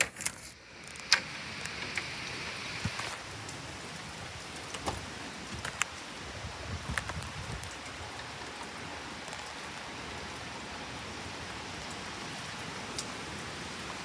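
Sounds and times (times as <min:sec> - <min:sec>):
steady rain: 0:00.0 - 0:14.0
raindrops tapping nearby: 0:00.7 - 0:14.0.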